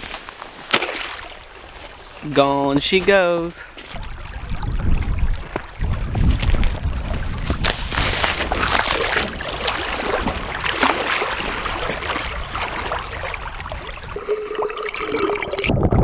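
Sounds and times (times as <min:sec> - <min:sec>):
river water splashing and trickling: 0:00.0 - 0:15.7
small water splashes crackling: 0:00.0 - 0:15.7.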